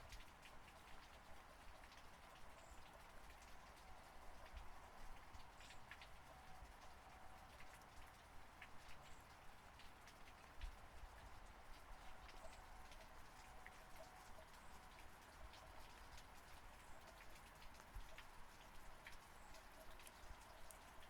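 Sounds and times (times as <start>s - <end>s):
faint steady rain: 0.0s - 21.0s.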